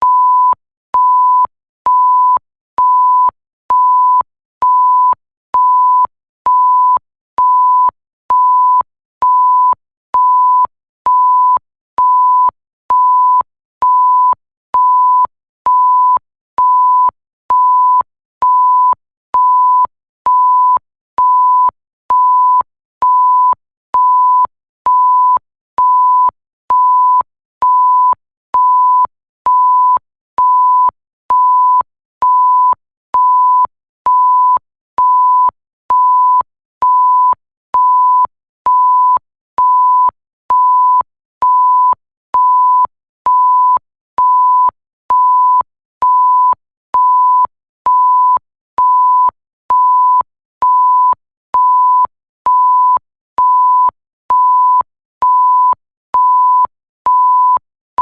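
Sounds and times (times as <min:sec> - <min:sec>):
censor bleep tone: 0:00.0 - 0:57.6.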